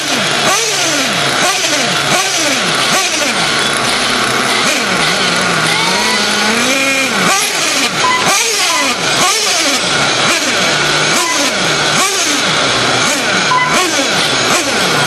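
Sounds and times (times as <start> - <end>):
rc truck motors whining: 0.0 - 15.0.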